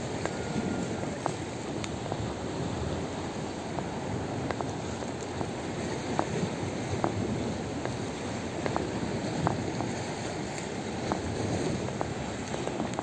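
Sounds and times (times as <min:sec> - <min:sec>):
small waves lapping on rocks: 0:00.0 - 0:13.0
wind on microphone: 0:00.0 - 0:13.0.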